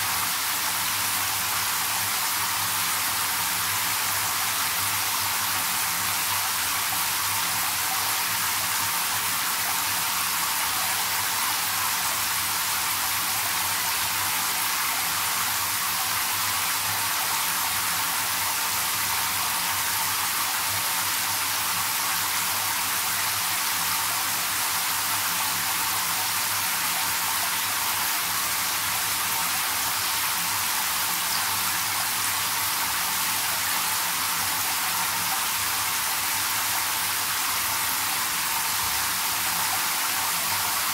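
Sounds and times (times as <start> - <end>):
shower spraying into bathtub: 0.0 - 40.9.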